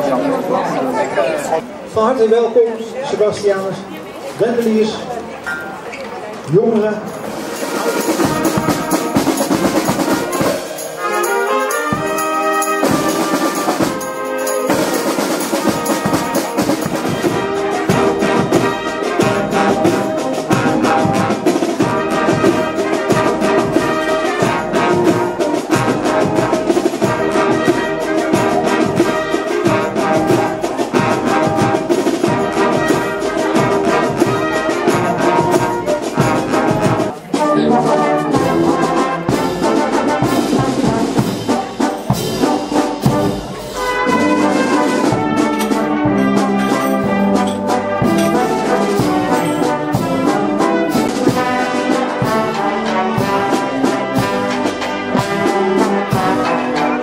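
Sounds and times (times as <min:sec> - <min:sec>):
brass band playing: 0:00.0 - 0:02.3, 0:06.5 - 0:57.0
snare drums: 0:06.8 - 0:57.0.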